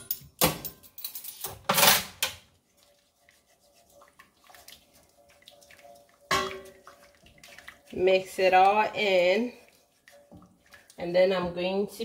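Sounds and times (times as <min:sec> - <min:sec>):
soft stirring: 0:02.3 - 0:12.0.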